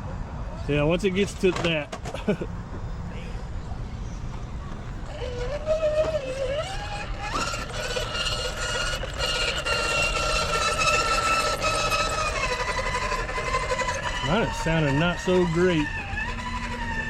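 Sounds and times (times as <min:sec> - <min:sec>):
electric motor and gears whining: 0:00.6 - 0:17.0.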